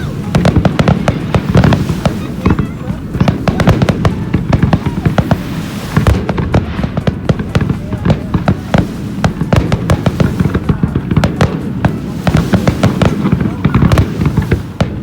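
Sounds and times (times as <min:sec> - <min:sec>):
continuous low rumble: 0:00.0 - 0:15.0
fireworks bangs and crackles: 0:00.0 - 0:15.0.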